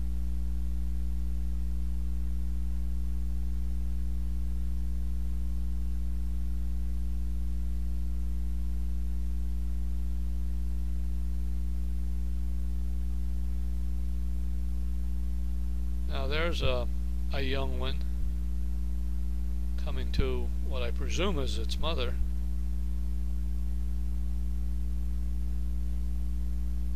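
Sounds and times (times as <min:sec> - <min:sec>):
electrical mains hum: 0:00.0 - 0:26.9.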